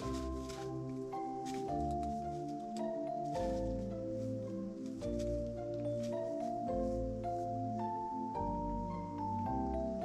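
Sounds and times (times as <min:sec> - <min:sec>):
calm mallet instrument melody: 0:00.0 - 0:10.0.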